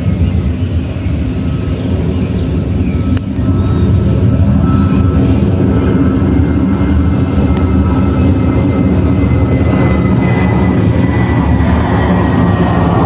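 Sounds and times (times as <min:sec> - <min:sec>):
airliner engine noise: 0:00.0 - 0:13.0
high engine whine: 0:00.0 - 0:13.0.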